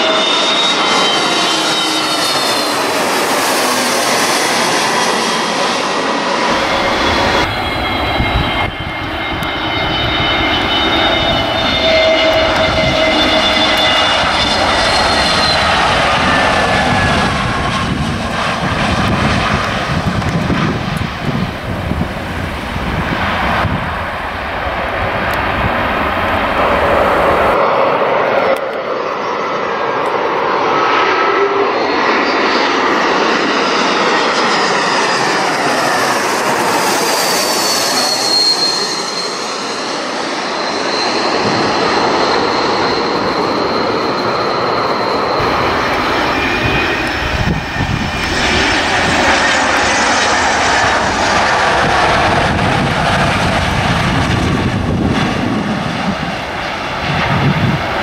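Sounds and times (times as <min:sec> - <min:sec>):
airliner touching down: 0:00.0 - 0:58.0
jet passing low overhead: 0:00.0 - 0:58.0.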